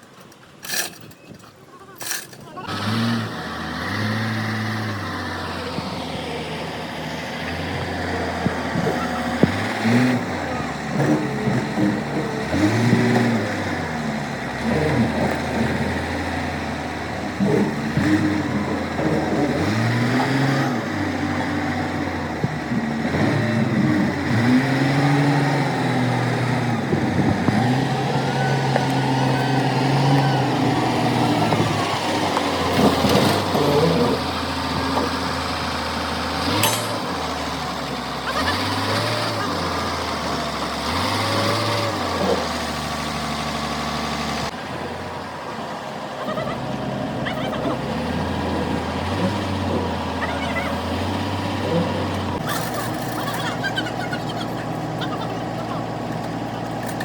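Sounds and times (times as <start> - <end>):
heavy machine engine revving: 2.6 - 57.0.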